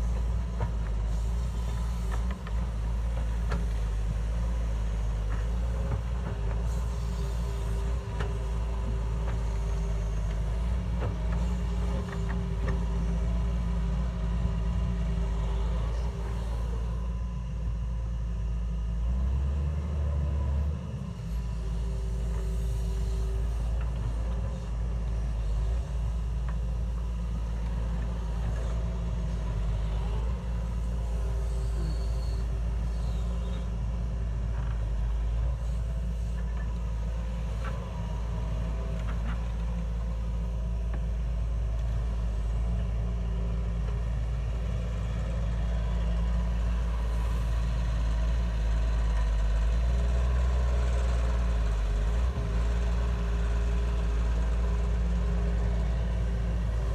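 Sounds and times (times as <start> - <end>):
heavy machine engine rumbling: 0.0 - 56.9.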